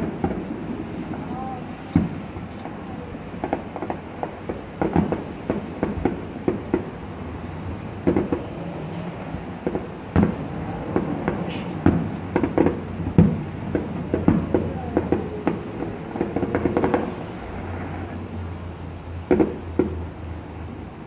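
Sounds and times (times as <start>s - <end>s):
fireworks bangs and pops: 0.0s - 18.2s, 19.2s - 21.0s.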